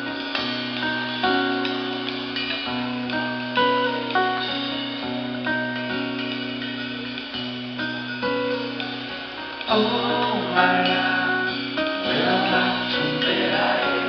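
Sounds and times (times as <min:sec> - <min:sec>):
guitars picking a melody: 0:00.0 - 0:14.0.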